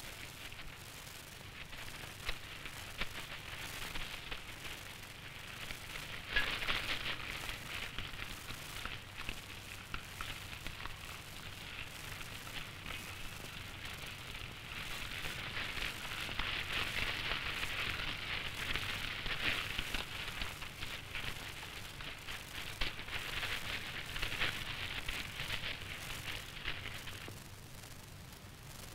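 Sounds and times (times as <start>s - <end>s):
fire crackling: 0.0s - 28.9s.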